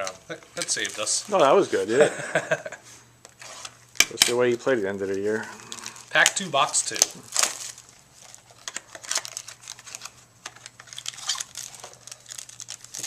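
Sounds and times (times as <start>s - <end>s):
cards clicking and rustling: 0.0s - 1.4s, 3.3s - 13.0s
wrapper crinkling and tearing: 0.0s - 1.9s, 3.4s - 13.0s.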